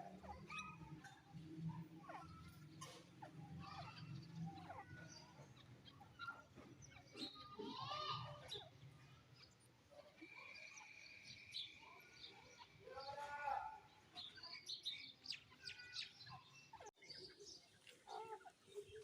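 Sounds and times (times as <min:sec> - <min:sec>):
bird chirps and calls: 0:00.0 - 0:19.0.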